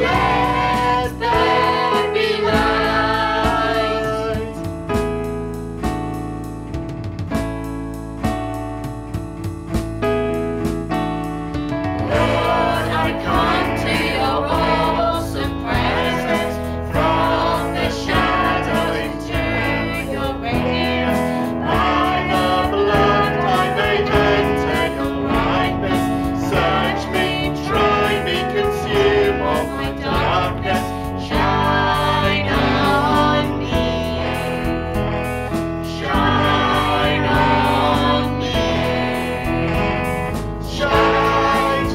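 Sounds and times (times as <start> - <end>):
voices singing worship song: 0.0 - 5.0, 12.0 - 41.9
instrumental accompaniment: 0.0 - 41.9.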